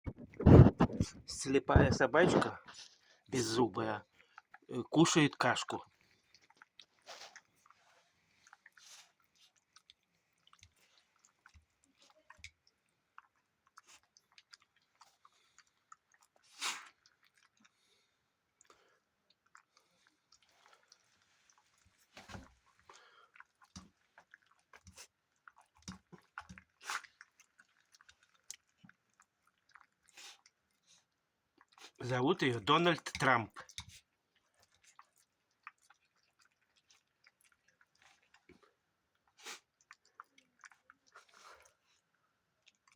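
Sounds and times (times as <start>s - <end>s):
dog chewing wet smacks: 0.1s - 42.9s.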